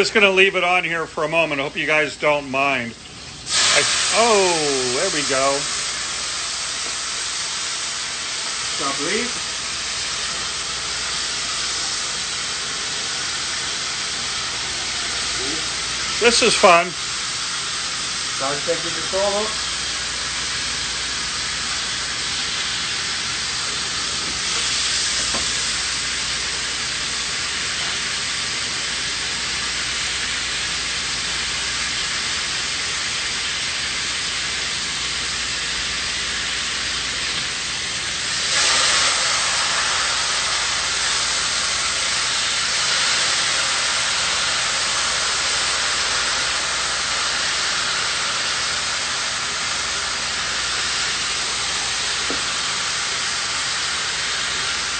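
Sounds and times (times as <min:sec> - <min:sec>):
meat sizzling in a pan: 0:03.0 - 0:54.9.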